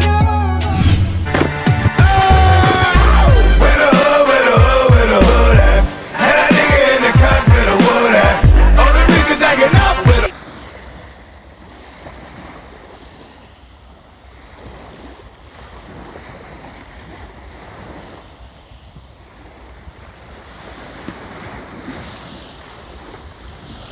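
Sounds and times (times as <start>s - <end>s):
sea surf washing onto beach: 1.2s - 8.4s, 9.1s - 23.9s.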